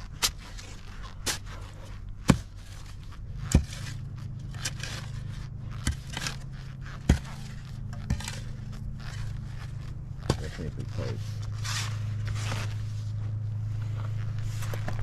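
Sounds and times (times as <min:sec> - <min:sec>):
shovel striking wet dirt: 0:00.0 - 0:12.8
excavator engine idling: 0:00.0 - 0:15.0.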